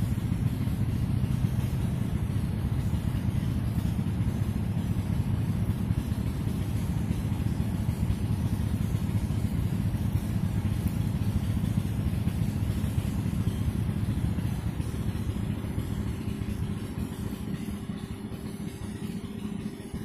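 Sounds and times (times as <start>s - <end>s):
faint higher hum: 0.0s - 20.0s
low engine drone: 0.0s - 20.0s.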